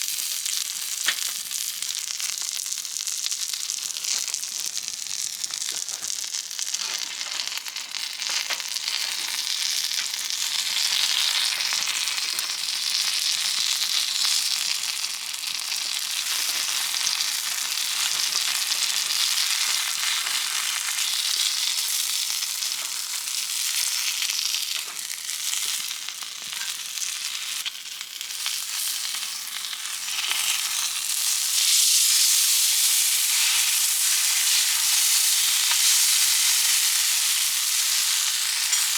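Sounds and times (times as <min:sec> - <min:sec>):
food sizzling on a griddle: 0:00.0 - 0:38.9.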